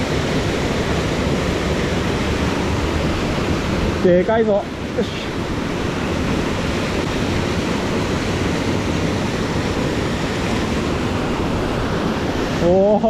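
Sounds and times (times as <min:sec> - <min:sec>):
rushing mountain stream: 0:00.0 - 0:13.0.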